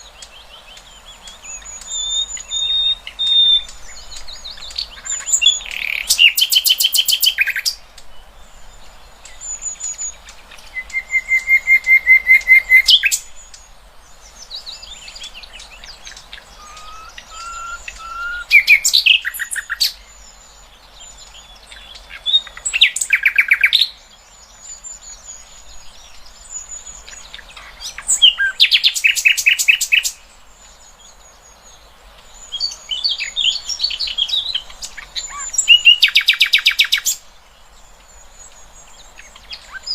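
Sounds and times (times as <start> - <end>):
songbirds singing trills: 0.0 - 39.9.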